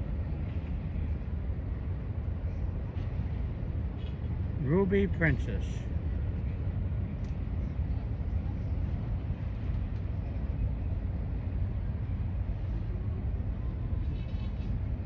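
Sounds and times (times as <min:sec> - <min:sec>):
harbour low rumble: 0:00.0 - 0:15.0.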